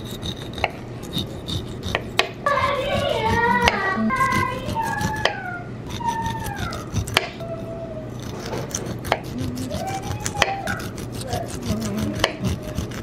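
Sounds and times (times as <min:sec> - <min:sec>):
knife scraping corn cob: 0:00.0 - 0:13.0.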